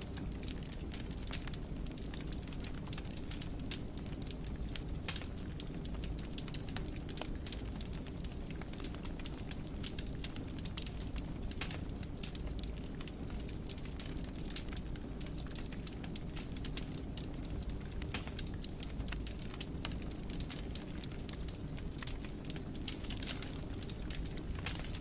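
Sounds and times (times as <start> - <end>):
fire crackling: 0.0 - 25.0
low rumble of fire: 0.0 - 25.0
pops and snaps of fire: 0.1 - 25.0.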